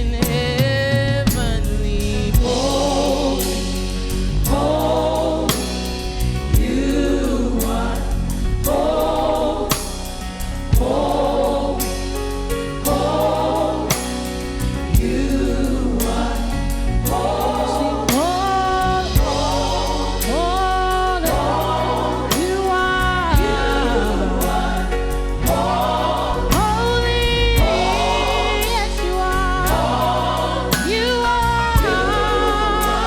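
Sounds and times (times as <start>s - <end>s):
gospel choir singing: 0.0s - 33.0s
instrumental backing with beat: 0.0s - 33.0s.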